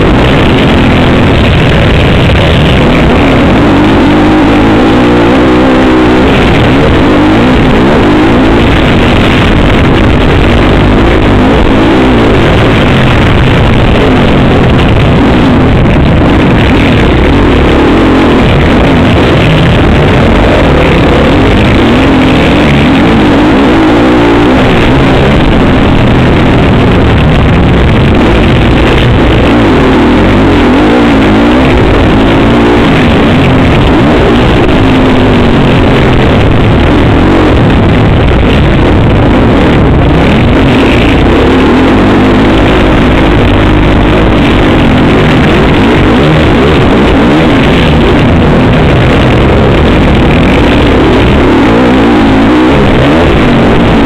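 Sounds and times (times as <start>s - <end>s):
dirt bike engine revving: 0.0s - 54.0s
track noise: 0.0s - 54.0s
wind noise: 0.0s - 54.0s.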